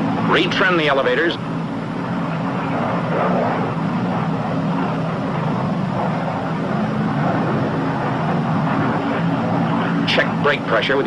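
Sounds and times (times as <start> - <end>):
aircraft propeller engines droning: 0.0 - 11.0.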